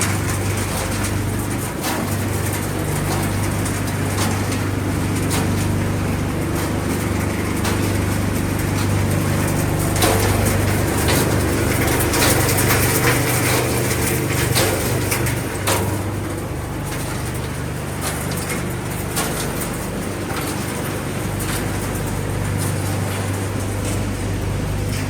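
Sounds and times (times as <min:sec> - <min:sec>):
machinery motor drone: 0:00.0 - 0:25.0.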